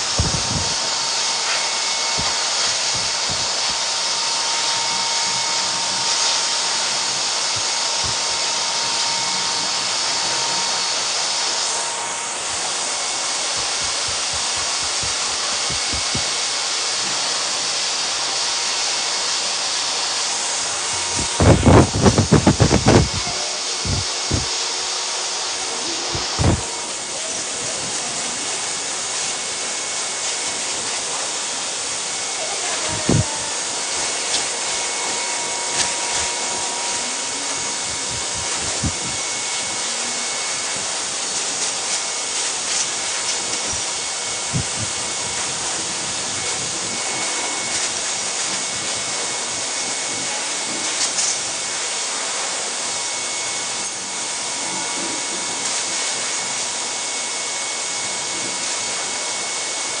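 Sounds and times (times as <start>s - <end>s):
blow dryer running: 0.0s - 60.0s.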